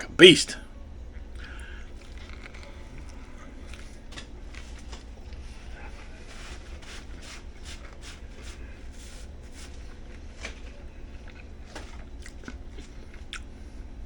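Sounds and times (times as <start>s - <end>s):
steady low hum: 0.0s - 14.0s
person chewing a sandwich: 1.1s - 14.0s.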